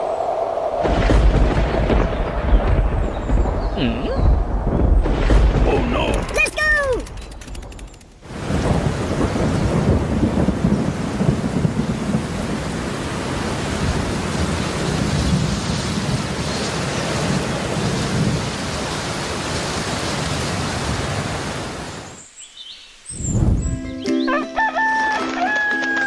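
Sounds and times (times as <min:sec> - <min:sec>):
heavy rain: 0:00.0 - 0:06.9, 0:08.2 - 0:22.4
thunder rumbling: 0:00.0 - 0:21.9.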